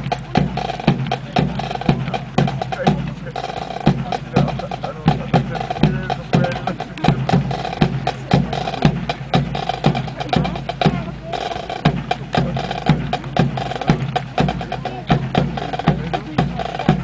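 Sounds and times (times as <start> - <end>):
drum cadence: 0.0 - 17.0
rifles clacking: 0.0 - 17.0.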